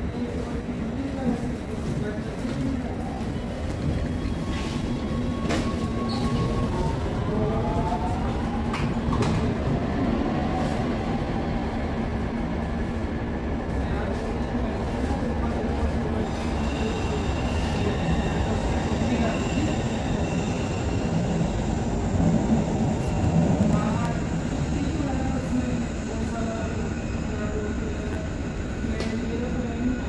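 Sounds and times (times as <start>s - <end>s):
rumble of wheels on track: 0.0s - 30.0s.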